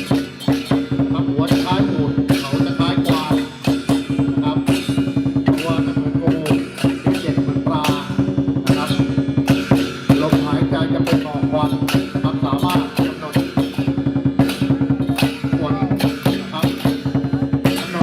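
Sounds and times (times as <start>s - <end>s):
drums and cymbals beating: 0.0s - 18.0s.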